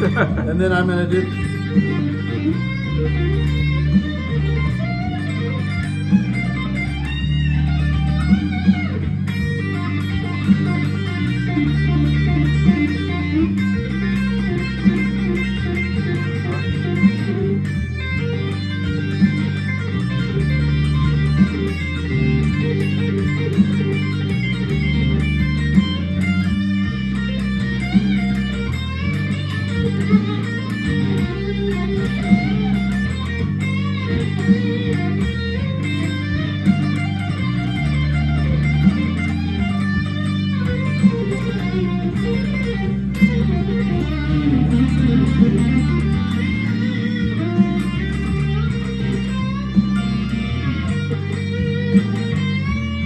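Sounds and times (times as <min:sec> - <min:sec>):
electric guitar playing blues: 0:00.0 - 0:53.0.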